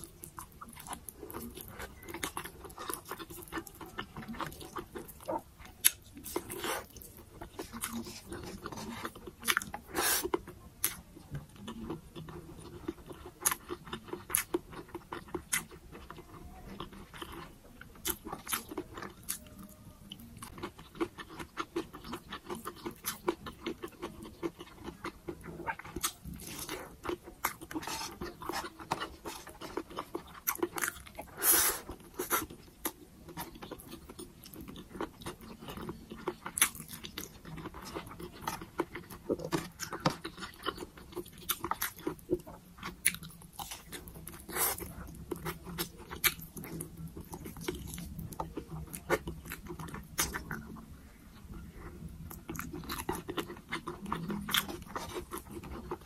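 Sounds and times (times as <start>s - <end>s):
person chewing sticky food: 0.0s - 56.0s.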